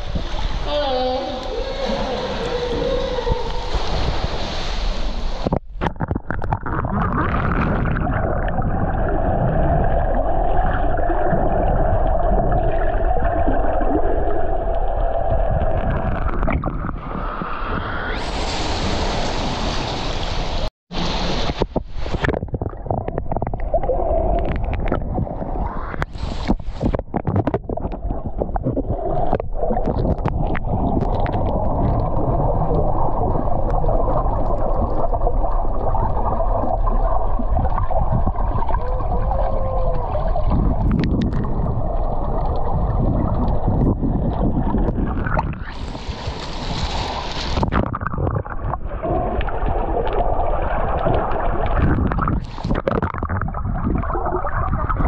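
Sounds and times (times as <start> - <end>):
muffled underwater rush: 0.0 - 55.0
water sloshing and splashing: 0.0 - 55.0.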